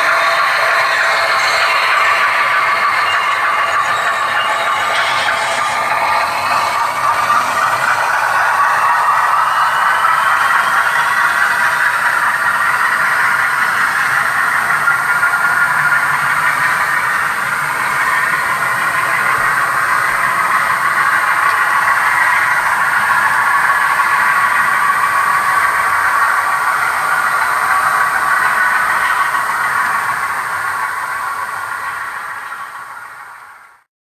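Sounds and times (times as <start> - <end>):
model locomotive motor whine: 0.0 - 33.9.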